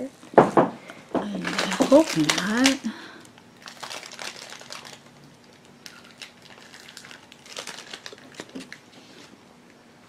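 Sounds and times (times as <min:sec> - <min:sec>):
faint steady hum: 0:00.0 - 0:10.0
faint crinkling and clicking rustles: 0:00.9 - 0:09.4.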